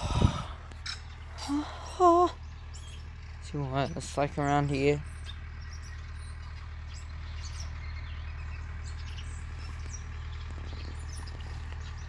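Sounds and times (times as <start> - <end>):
steady low rumble: 0.0 - 12.0
bird chirps: 0.7 - 12.0.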